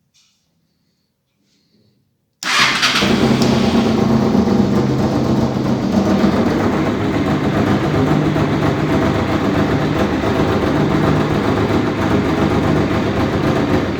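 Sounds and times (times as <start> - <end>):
motorcycle engine idling: 2.4 - 13.9.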